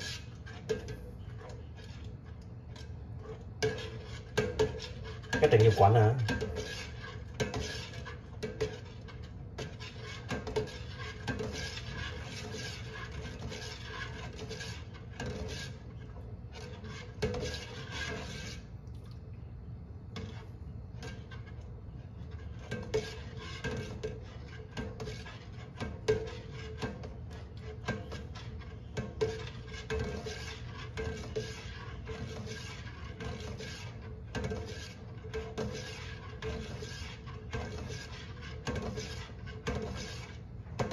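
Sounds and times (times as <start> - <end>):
metal spoon scraping a pot: 0.0 - 18.8, 19.8 - 40.9.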